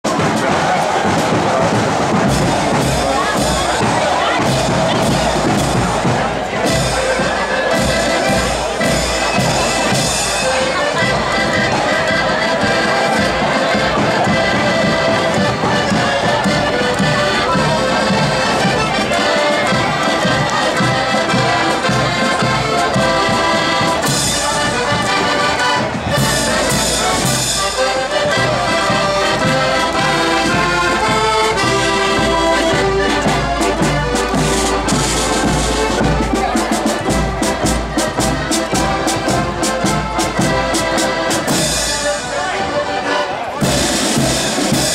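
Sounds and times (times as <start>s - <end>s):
accordion band playing a march: 0.0s - 44.9s
snare drums: 0.0s - 44.9s.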